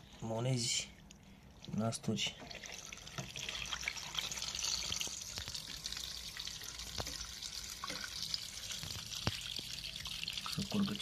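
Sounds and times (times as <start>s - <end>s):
water trickling and dripping: 1.0s - 11.0s.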